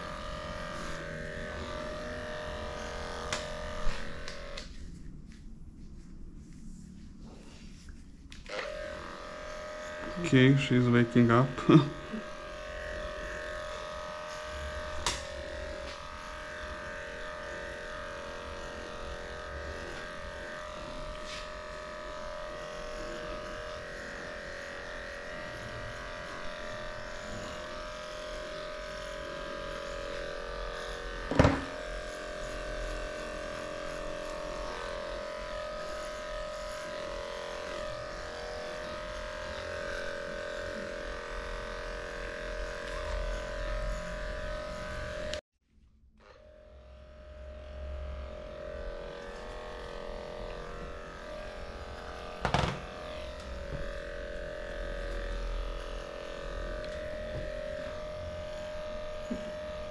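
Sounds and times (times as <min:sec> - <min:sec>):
electric clipper humming: 0:00.0 - 0:04.8, 0:08.3 - 0:45.4, 0:46.2 - 0:59.9.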